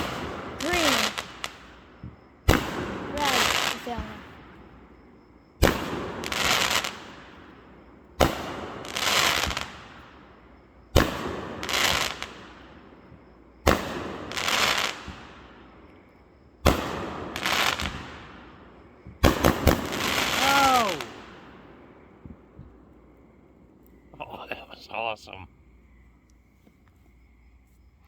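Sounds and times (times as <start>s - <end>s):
fireworks bang and crackle: 0.0s - 22.8s.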